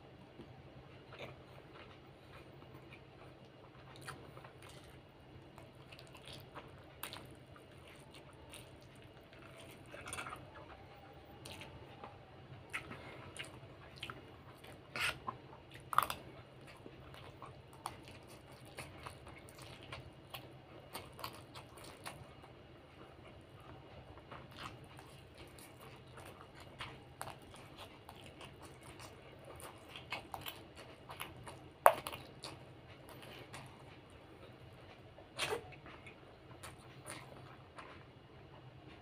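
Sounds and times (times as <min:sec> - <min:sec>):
person chewing: 0:00.3 - 0:38.2.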